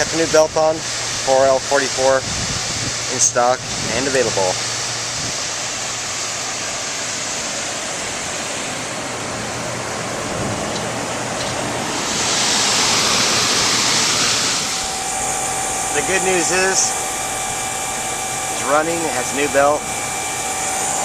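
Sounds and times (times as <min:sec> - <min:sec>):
air conditioning unit running: 0:00.0 - 0:21.0.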